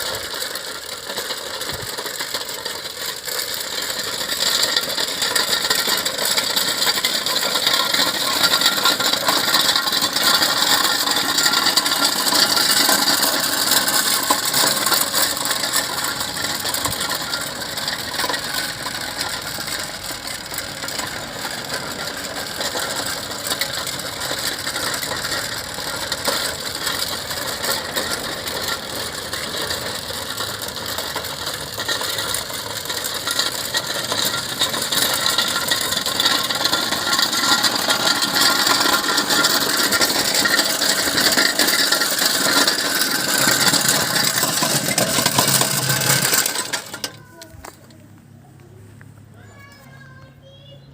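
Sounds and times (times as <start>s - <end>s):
road roller clattering: 0.0s - 50.9s.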